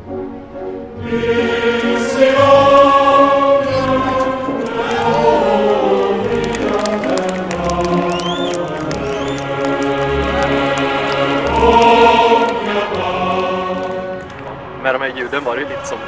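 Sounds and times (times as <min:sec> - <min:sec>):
choir holding long chords: 0:00.0 - 0:16.0.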